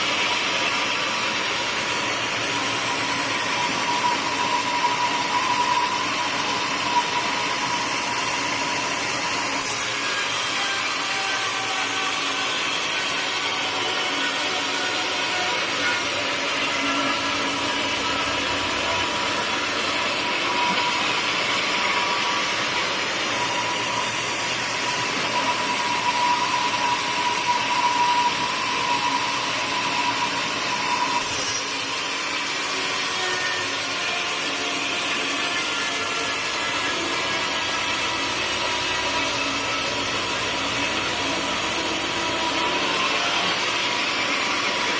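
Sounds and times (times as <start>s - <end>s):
sawmill saw whine: 0.0s - 44.9s
saw rasping through log: 1.8s - 44.9s.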